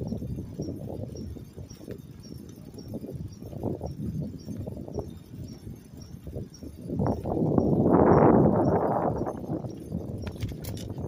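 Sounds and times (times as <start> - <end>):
bicycle clicks: 0.0 - 11.0
wind and road rattle: 0.0 - 11.0.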